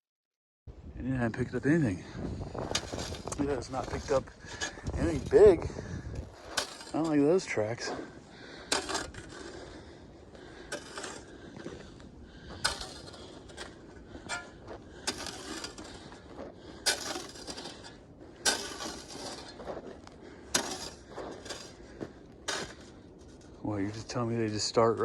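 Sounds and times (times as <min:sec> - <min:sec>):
footsteps crunching in icy snow: 0:02.4 - 0:24.3.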